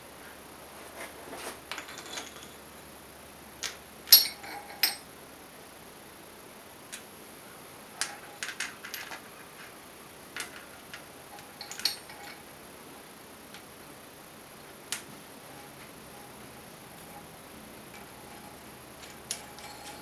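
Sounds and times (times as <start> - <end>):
faint background hum: 0.0 - 20.0.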